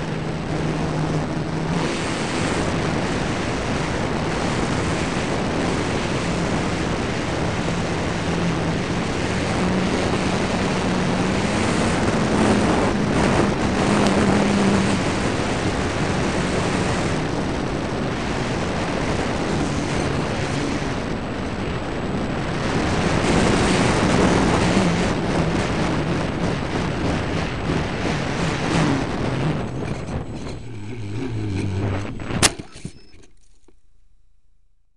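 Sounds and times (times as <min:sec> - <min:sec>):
wind rushing over camera: 0:00.0 - 0:33.3
model plane motor humming: 0:00.0 - 0:33.7.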